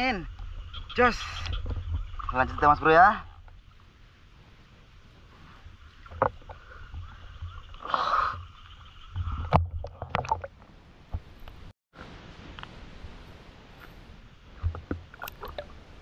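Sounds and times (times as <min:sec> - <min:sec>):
water sloshing: 0:00.0 - 0:11.7, 0:14.5 - 0:16.0
rush of water: 0:00.0 - 0:16.0.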